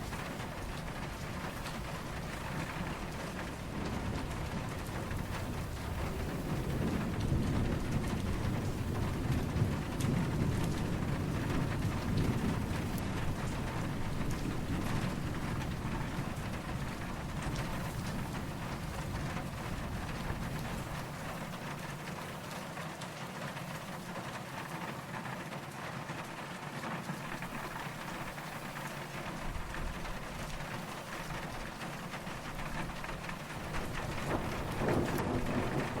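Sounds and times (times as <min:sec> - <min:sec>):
distant thunder rumbling: 0:00.0 - 0:22.4, 0:27.2 - 0:36.0
steady rain: 0:00.0 - 0:36.0.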